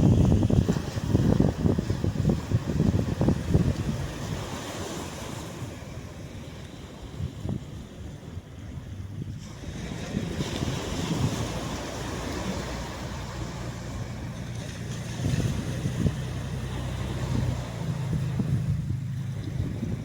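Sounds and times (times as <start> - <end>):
surf washing onto sandy shore: 0.0 - 20.0
wind rumbling on microphone: 0.0 - 20.0.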